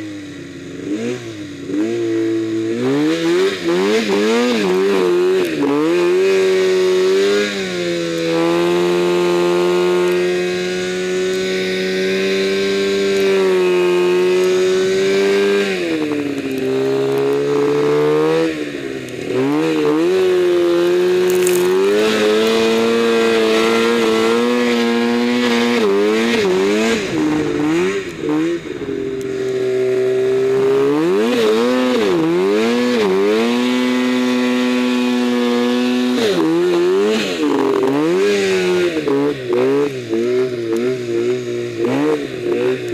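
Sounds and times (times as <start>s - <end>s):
snowmobile engine revving: 0.6s - 42.9s.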